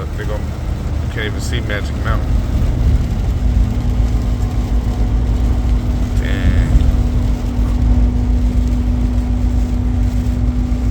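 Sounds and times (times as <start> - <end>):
constant hum: 0.0 - 10.9
truck engine and road rumble: 0.0 - 10.9.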